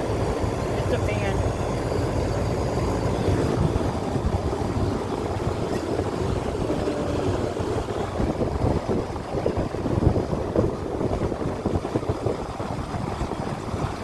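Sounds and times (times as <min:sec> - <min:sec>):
low steady rumble: 0:00.0 - 0:14.0
rushing air buffeting microphone: 0:00.0 - 0:14.0.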